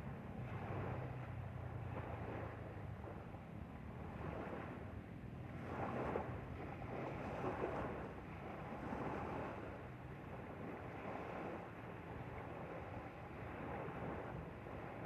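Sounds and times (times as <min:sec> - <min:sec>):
boat engine humming: 0:00.0 - 0:15.0
water splashing past hull: 0:00.0 - 0:15.0
wind on microphone: 0:00.0 - 0:15.0.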